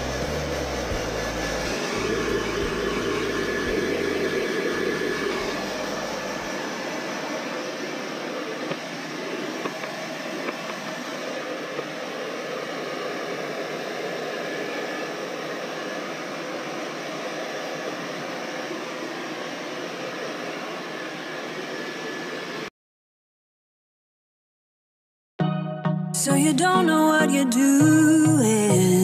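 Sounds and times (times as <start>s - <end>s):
hair dryer blowing: 0.0s - 22.7s, 26.6s - 29.0s.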